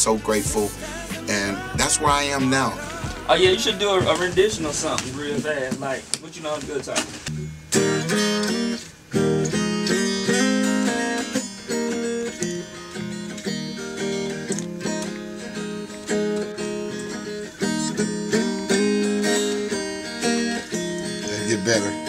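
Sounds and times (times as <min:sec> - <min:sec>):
solo guitar chords: 0:00.0 - 0:05.3, 0:07.3 - 0:22.0.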